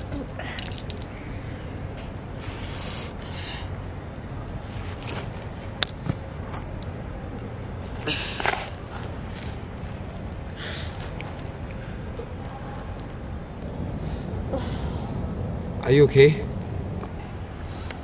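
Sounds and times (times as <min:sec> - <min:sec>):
steady outdoor rumble: 0:00.0 - 0:18.0.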